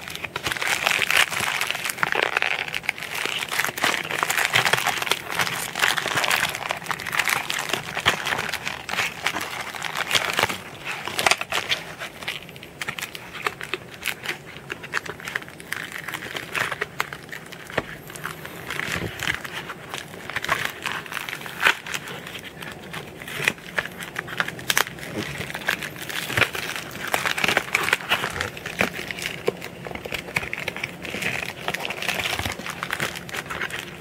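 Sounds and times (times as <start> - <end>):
plastic wrap crinkling: 0.0 - 34.0.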